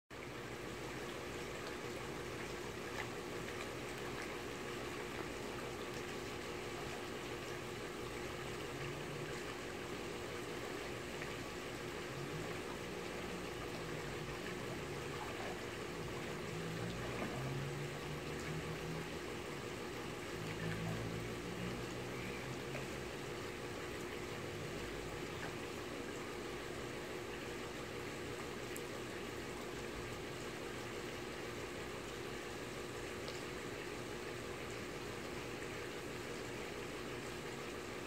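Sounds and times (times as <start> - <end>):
faint steady hum: 0.1 - 38.0
swimming pool water washing: 0.2 - 38.0.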